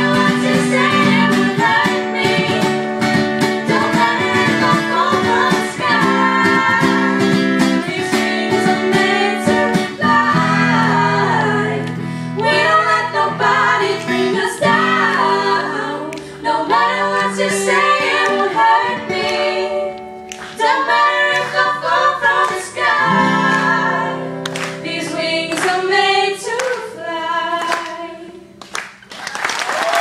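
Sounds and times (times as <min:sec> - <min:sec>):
strummed acoustic guitar: 0:00.0 - 0:25.8
girls singing in harmony: 0:00.0 - 0:28.6.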